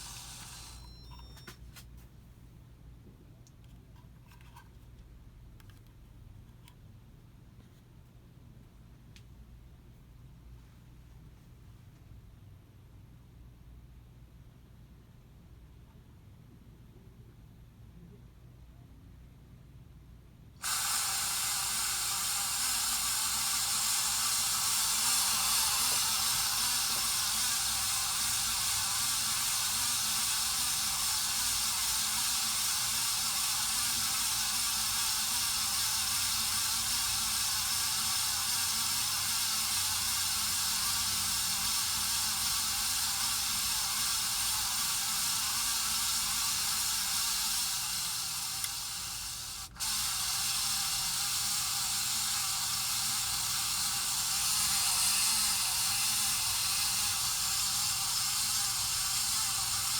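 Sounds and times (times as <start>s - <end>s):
ceiling fan rough hiss: 0.0s - 59.9s.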